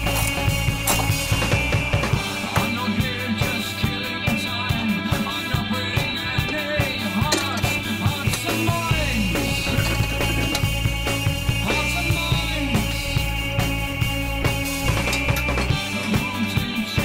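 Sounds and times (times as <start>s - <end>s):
background music with drum beat: 0.0s - 17.0s.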